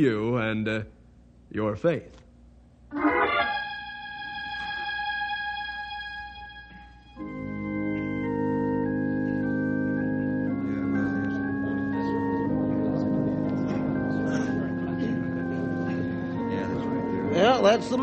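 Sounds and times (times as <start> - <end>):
organ playing sustained chords: 2.9 - 18.0.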